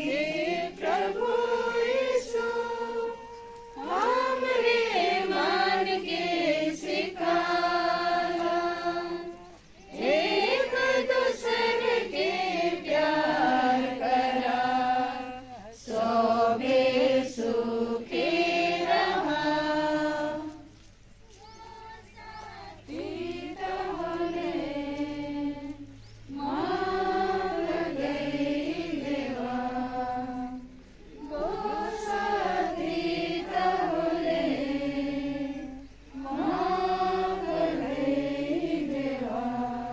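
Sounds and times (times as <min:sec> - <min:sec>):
group singing a hymn: 0:00.0 - 0:39.9.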